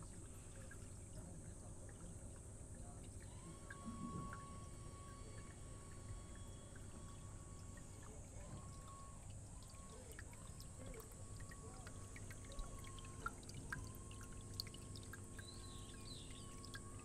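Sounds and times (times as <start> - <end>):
small drips and splashes: 0.0 - 17.0
water trickling into tank: 0.0 - 17.0.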